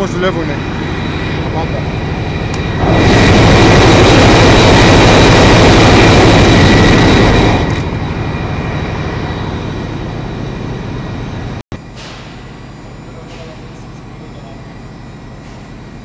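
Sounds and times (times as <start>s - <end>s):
diesel generator engines roaring: 0.0s - 16.0s.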